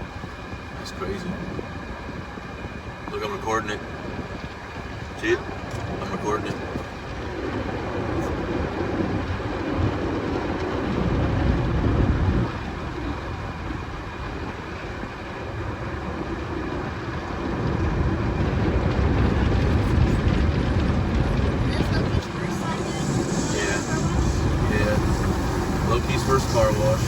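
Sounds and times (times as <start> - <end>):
car wash water spray rumble: 0.0 - 27.0.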